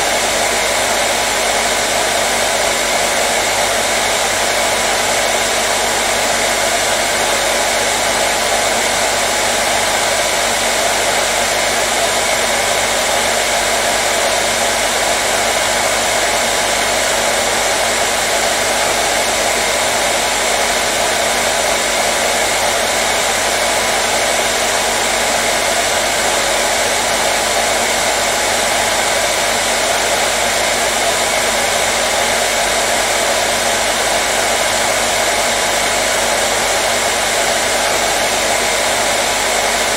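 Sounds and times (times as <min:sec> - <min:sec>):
hair dryer blowing air: 0:00.0 - 0:39.9.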